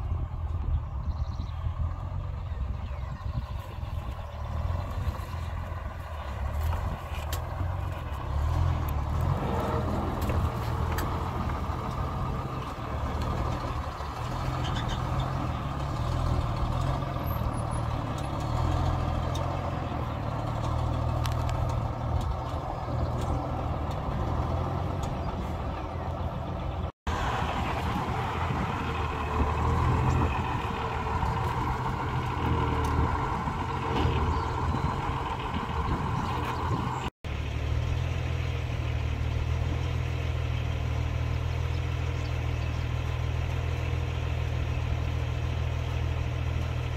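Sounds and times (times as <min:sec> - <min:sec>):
large truck engine running: 0:00.0 - 0:46.9.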